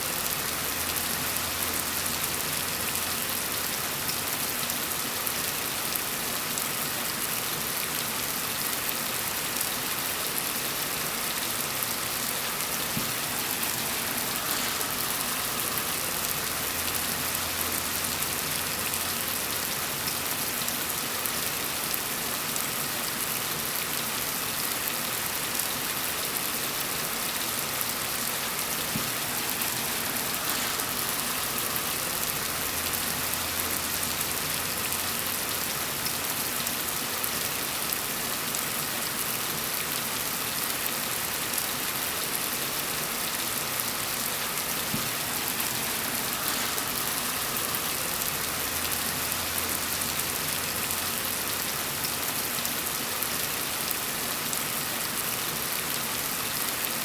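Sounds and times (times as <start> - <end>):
gentle rain falling: 0.0 - 57.0.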